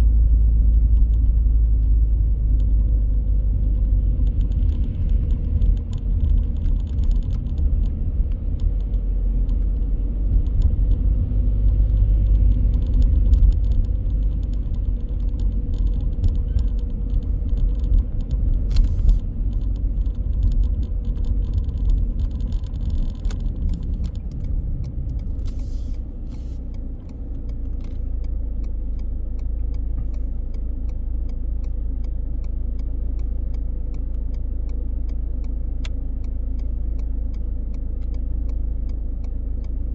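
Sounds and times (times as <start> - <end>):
road and engine rumble: 0.0 - 39.9
sharp clicks: 3.7 - 39.8.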